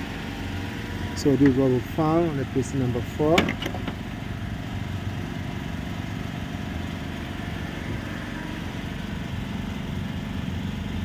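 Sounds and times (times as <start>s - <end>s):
machine engine humming: 0.0s - 11.0s.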